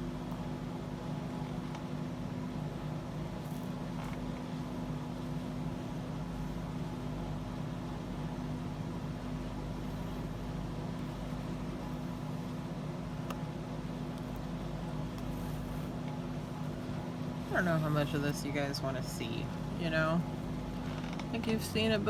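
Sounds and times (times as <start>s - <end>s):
fan droning: 0.0s - 22.0s.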